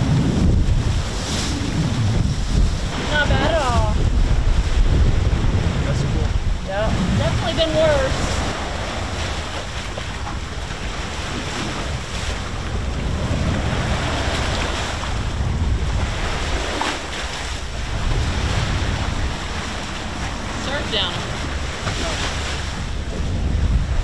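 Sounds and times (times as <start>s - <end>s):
waves breaking: 0.0s - 24.0s
wind buffeting microphone: 0.0s - 24.0s.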